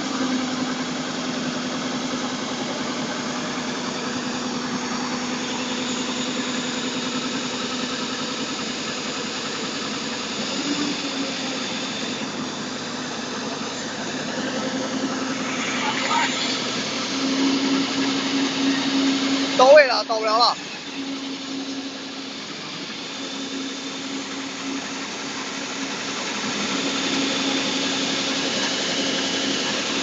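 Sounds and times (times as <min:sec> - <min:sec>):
engine running with low hum: 0:00.0 - 0:30.0.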